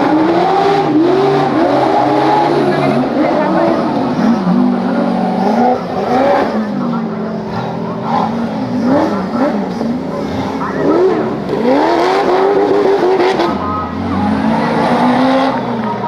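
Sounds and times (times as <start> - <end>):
low engine drone: 0.0 - 16.0
off-road vehicle engines revving: 0.0 - 16.0.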